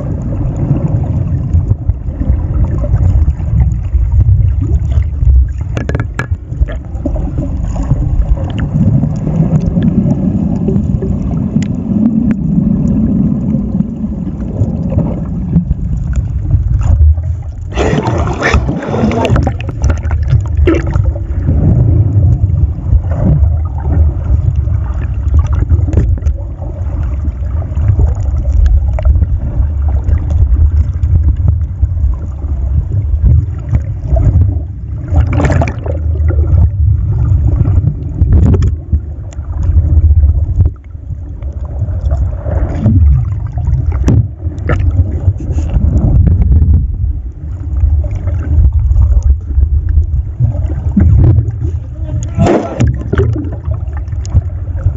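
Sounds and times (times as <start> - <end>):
muffled underwater rumble: 0.0 - 54.9.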